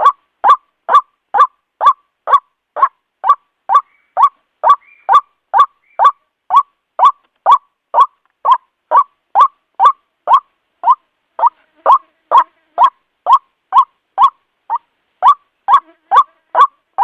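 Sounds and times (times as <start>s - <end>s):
waterhen croaking call: 0.0s - 17.0s.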